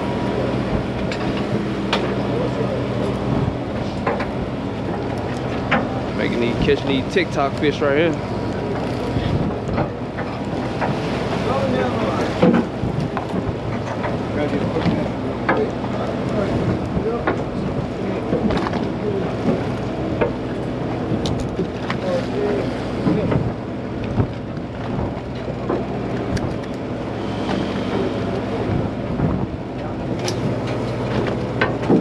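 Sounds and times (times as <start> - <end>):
wind on microphone: 0.0 - 18.8, 22.8 - 30.8
boat engine droning: 0.0 - 32.0.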